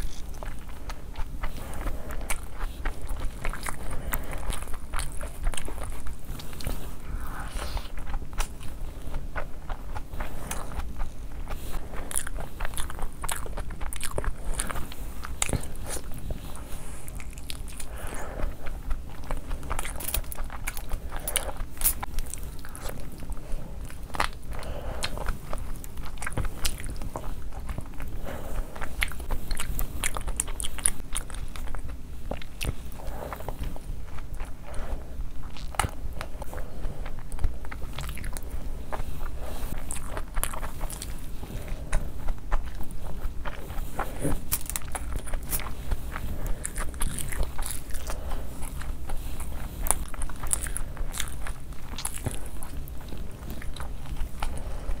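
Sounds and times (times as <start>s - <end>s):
biting and chewing food: 0.0s - 55.0s.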